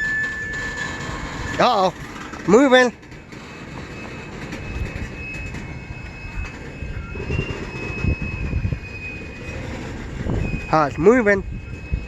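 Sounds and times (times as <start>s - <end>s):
freight train cars rumbling: 0.0s - 12.0s
high wheel squeal: 0.0s - 12.0s.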